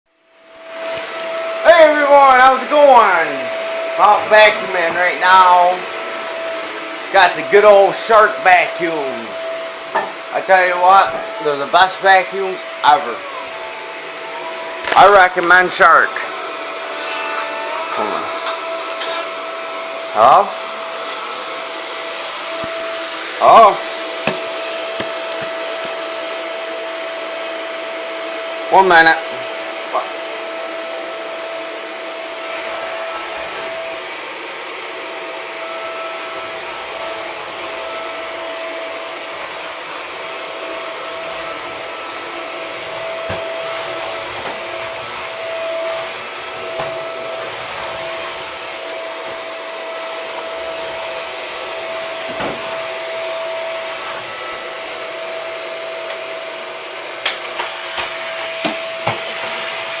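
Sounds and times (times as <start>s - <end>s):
vacuum cleaner running: 0.2s - 60.0s.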